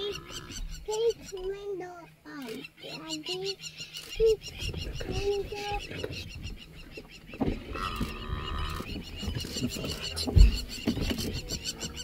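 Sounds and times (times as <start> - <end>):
large birds honking: 0.0 - 12.0.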